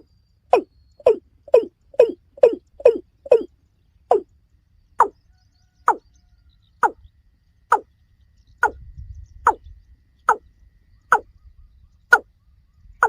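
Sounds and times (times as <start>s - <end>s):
bird's hollow repeated call: 0.0s - 13.0s.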